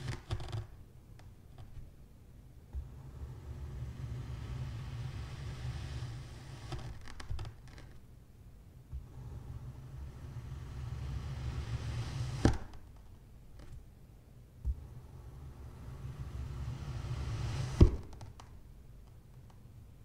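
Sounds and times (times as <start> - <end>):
steady low hum: 0.0 - 7.0, 8.0 - 20.0.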